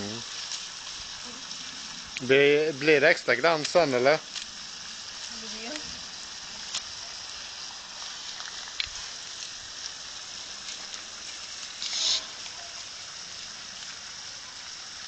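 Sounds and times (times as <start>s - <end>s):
liquid spraying: 0.0s - 15.0s
water hissing on horse's coat: 0.0s - 15.0s.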